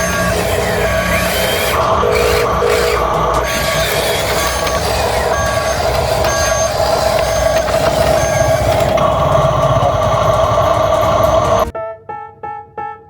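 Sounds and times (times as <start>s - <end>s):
electronic reversing beeps: 0.0s - 11.7s
steady electronic whine: 0.0s - 11.7s.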